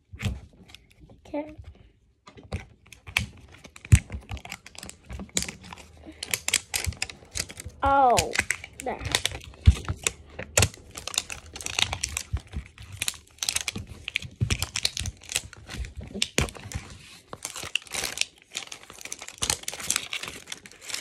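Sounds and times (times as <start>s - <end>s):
plastic wrapping crinkling and tearing: 0.0s - 21.0s.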